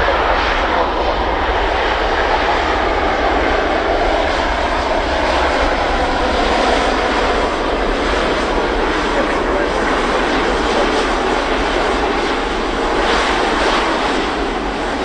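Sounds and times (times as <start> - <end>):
jet aircraft engine rush: 0.0 - 15.0.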